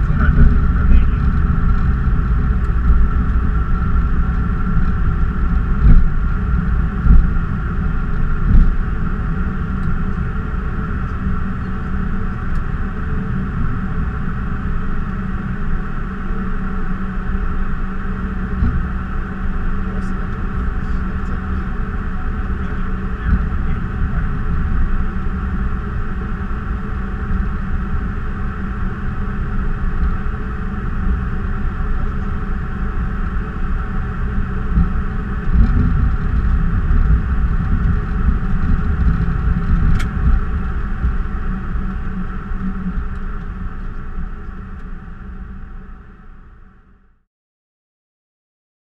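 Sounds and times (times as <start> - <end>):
wheels rumbling on pavement: 0.0 - 46.7
jet engines humming: 0.0 - 46.9.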